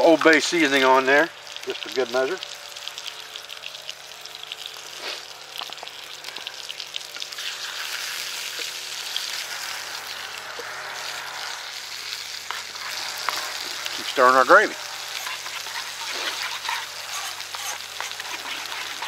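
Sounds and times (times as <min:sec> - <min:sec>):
meat sizzling in a skillet: 0:00.0 - 0:19.0.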